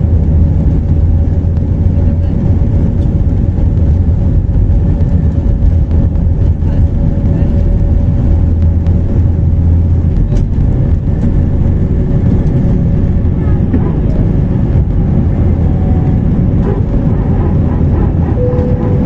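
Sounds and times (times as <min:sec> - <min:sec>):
jet engines at takeoff thrust: 0:00.0 - 0:19.0.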